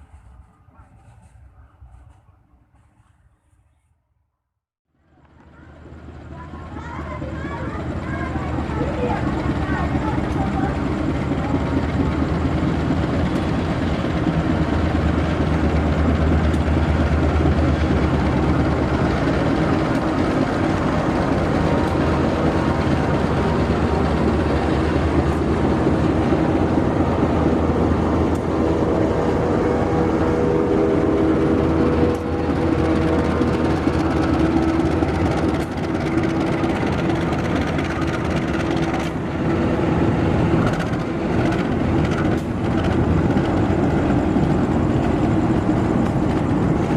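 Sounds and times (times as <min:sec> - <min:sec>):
diesel locomotive engine: 0:00.0 - 0:04.0, 0:04.9 - 0:46.9.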